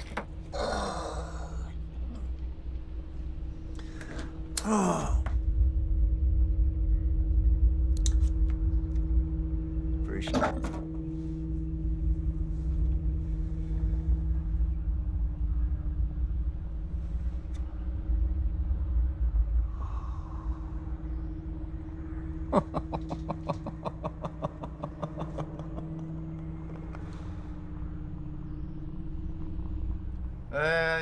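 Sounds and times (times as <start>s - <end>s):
low rumble with hum: 0.0s - 31.0s.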